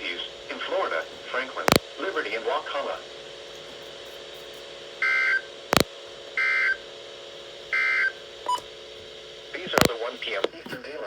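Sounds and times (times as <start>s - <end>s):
radio hiss and hum: 0.0s - 11.0s.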